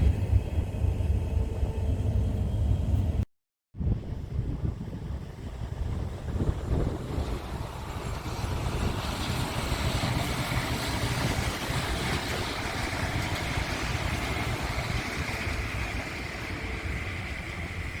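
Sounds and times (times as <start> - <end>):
train rumbling: 0.0 - 3.2, 3.8 - 18.0.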